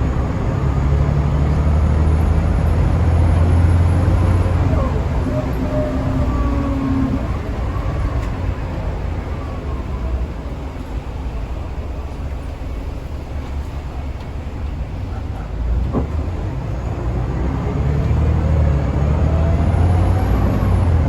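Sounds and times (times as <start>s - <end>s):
engine whine rising: 0.0s - 15.3s, 15.9s - 21.0s
bus engine rumbling: 0.0s - 21.0s.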